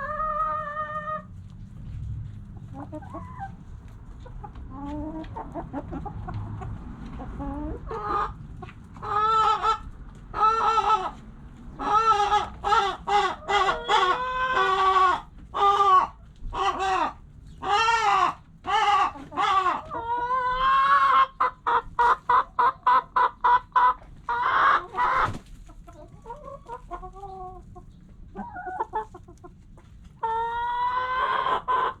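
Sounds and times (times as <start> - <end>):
chickens clucking: 0.0 - 32.0
chickens squawking: 0.0 - 32.0.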